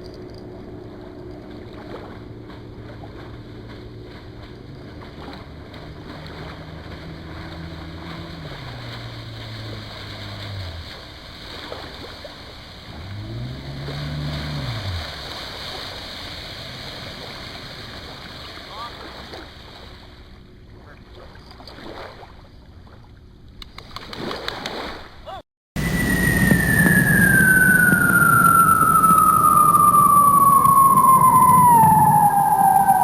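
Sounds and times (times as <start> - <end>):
outboard motor running: 0.0 - 23.4, 25.8 - 33.0
water noise: 0.0 - 33.0
wind: 0.0 - 33.0.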